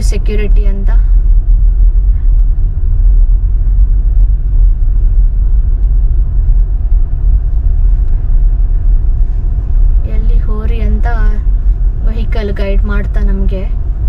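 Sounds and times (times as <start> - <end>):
car rumbling in traffic: 0.0 - 14.0.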